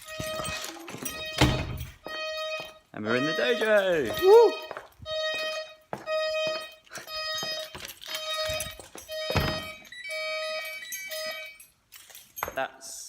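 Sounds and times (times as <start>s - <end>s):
alarm keypad beeping: 0.0s - 11.6s.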